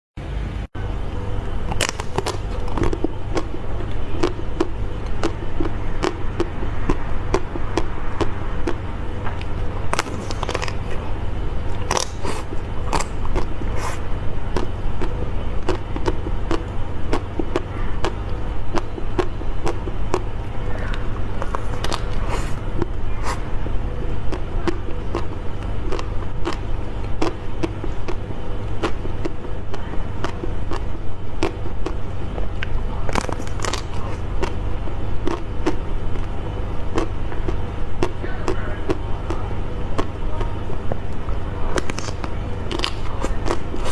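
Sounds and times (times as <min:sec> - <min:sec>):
steady low hum: 0:00.2 - 0:43.9
mouth clicks: 0:01.4 - 0:10.8, 0:11.8 - 0:34.6, 0:35.2 - 0:43.9
person chewing crunchy food: 0:01.4 - 0:43.9.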